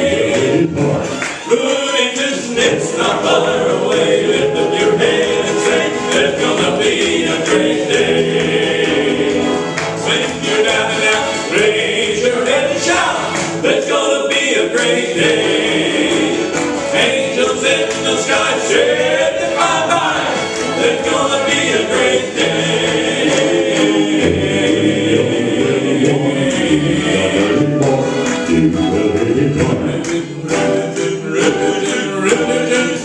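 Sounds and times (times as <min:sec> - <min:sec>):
acoustic guitar strumming: 0:00.0 - 0:33.0
men singing in close harmony: 0:00.0 - 0:33.0.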